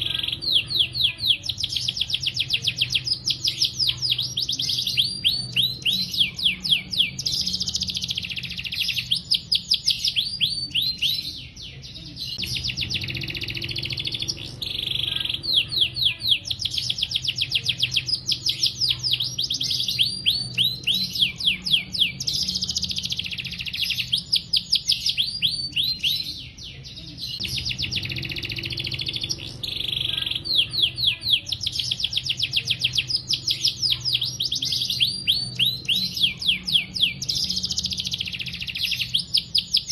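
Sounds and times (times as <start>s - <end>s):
faint low hum: 0.0s - 24.6s, 25.2s - 39.4s
canary singing trills: 0.0s - 39.9s.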